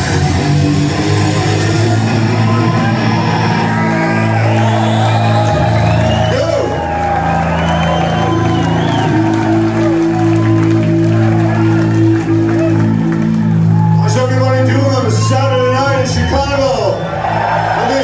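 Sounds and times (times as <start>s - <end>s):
droning band chords: 0.0s - 15.5s
crowd cheering and whooping: 0.0s - 18.0s.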